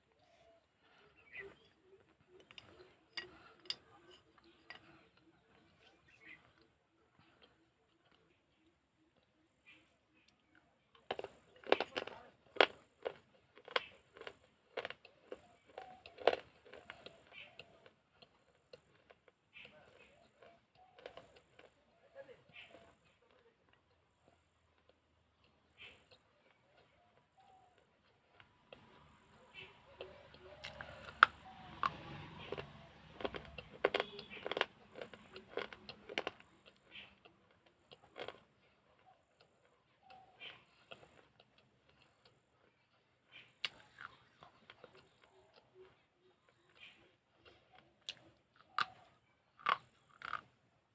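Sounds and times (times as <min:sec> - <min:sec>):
chewing crunchy pot pieces: 0:00.0 - 0:50.9.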